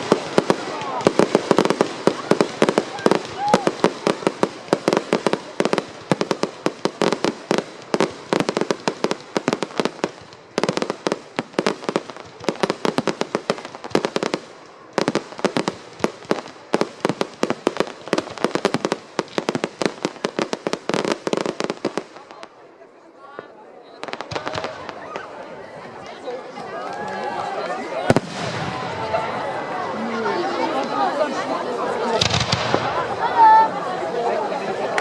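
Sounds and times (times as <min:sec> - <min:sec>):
fireworks bangs and crackling: 0:00.0 - 0:22.7, 0:23.3 - 0:35.0.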